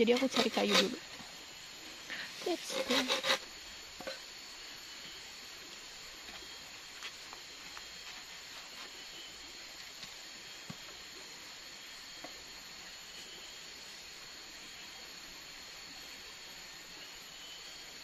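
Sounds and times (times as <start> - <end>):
faint steady high whine: 0.0 - 18.0.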